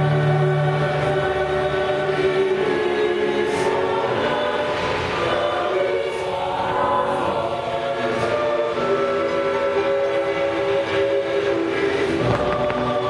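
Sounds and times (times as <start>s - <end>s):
choir singing held chords: 0.0s - 13.0s
musical accompaniment: 0.0s - 13.0s.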